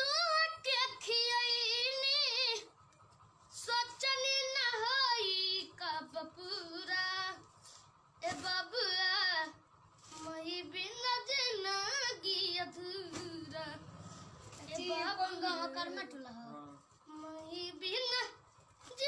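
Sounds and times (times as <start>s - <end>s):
boy singing: 0.0s - 2.7s, 3.5s - 7.4s, 8.2s - 13.8s, 14.6s - 19.0s.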